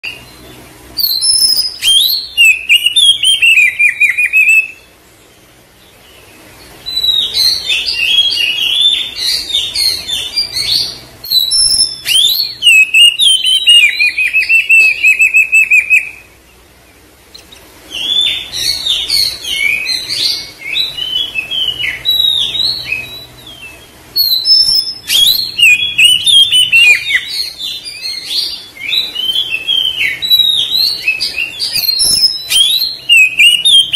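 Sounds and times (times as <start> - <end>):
magpie-robin singing: 0.0 - 33.9.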